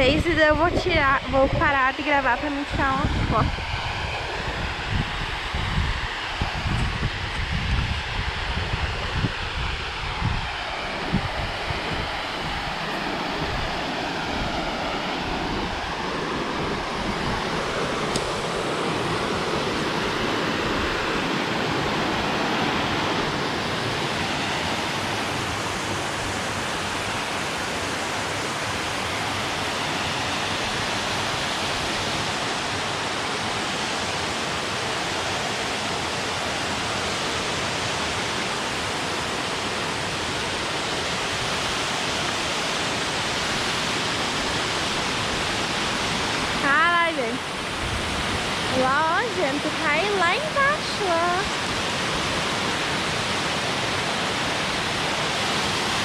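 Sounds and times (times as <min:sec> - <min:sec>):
waterfall rushing: 0:10.2 - 0:56.0.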